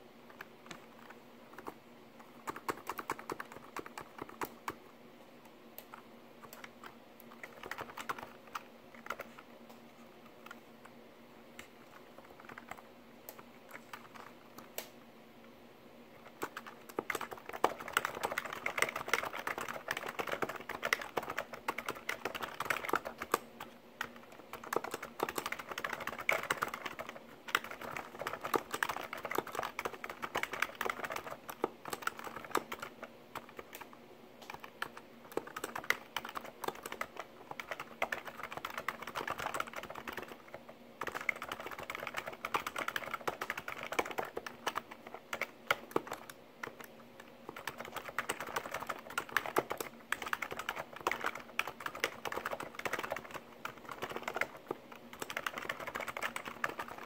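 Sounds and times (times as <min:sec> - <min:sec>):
keyboard typing: 0:00.3 - 0:04.8, 0:05.8 - 0:15.0, 0:16.2 - 0:57.0.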